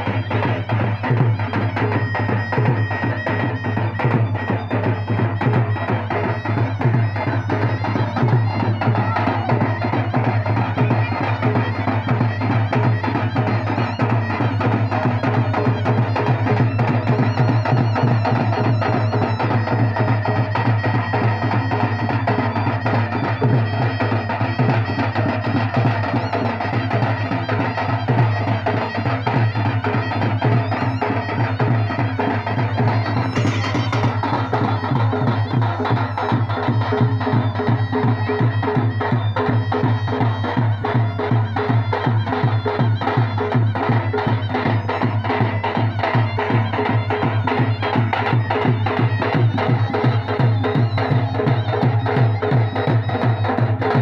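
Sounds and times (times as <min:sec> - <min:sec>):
nasal reed shawm melody: 0:00.0 - 0:54.0.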